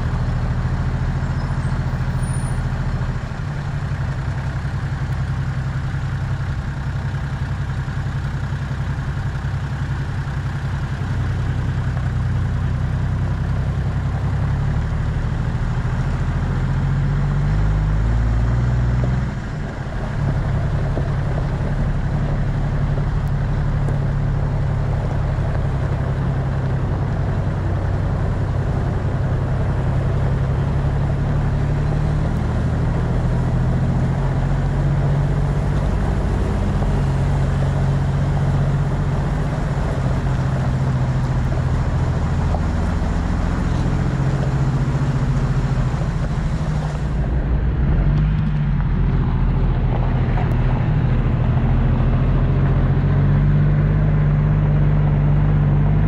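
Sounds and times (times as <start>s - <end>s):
road and tyre noise: 0.0s - 56.0s
vehicle engine running: 0.0s - 56.0s.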